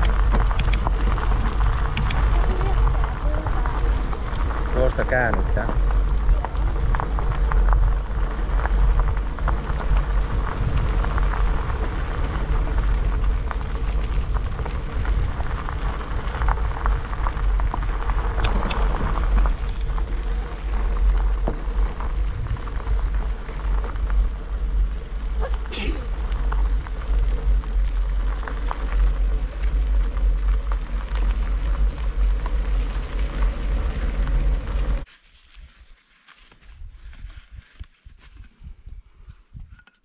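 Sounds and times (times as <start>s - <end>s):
bike clicks and rattles: 0.0s - 35.1s
wind on microphone: 0.0s - 35.1s, 36.6s - 40.0s
bicycle tyres crunching on gravel: 0.0s - 39.5s.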